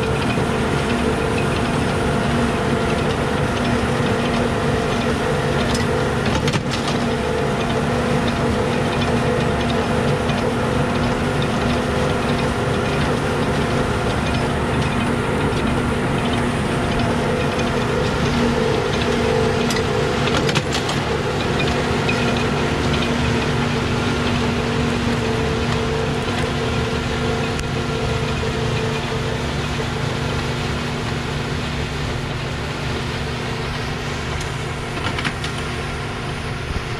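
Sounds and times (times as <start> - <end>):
baler and tractor humming: 0.0 - 36.9.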